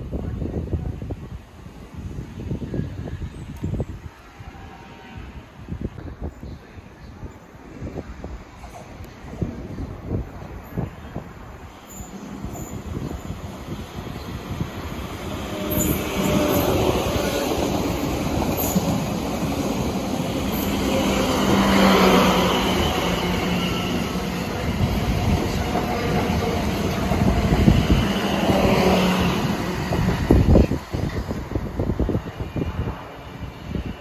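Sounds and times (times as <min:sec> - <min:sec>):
passenger train passing: 0:00.0 - 0:34.0.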